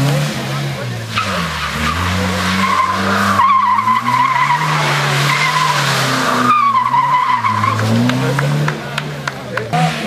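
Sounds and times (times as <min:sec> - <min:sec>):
car engine revving: 0:00.0 - 0:10.0
car tyres squealing: 0:00.0 - 0:10.0.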